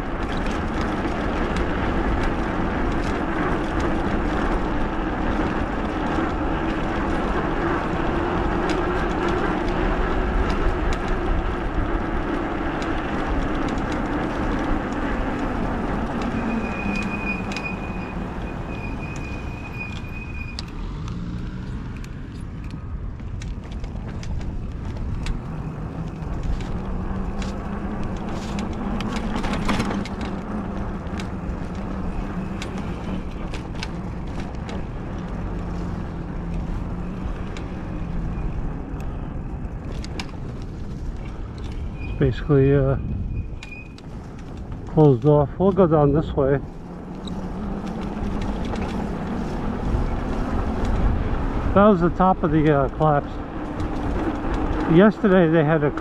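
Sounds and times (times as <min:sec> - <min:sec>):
e-bike motor and tyres humming: 0:00.0 - 0:56.0
wind noise: 0:00.0 - 0:56.0.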